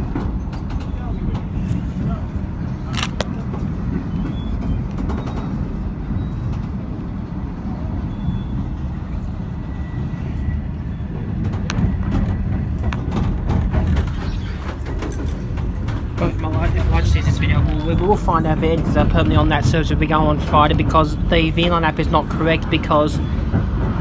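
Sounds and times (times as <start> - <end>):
train carriage rumbling on rails: 0.0 - 24.0.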